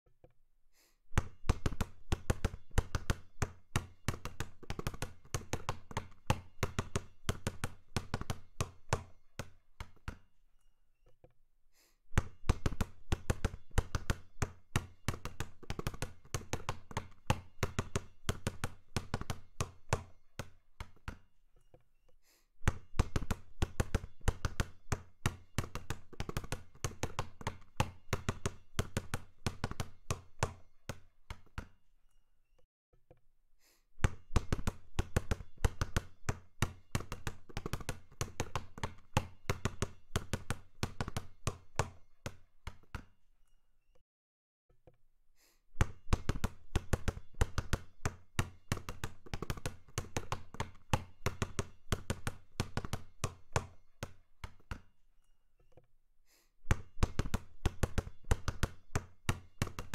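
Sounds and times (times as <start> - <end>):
basketball dribbling: 1.2 - 10.2, 12.2 - 21.2, 22.6 - 31.7, 34.0 - 43.1, 45.8 - 54.8, 56.7 - 59.9.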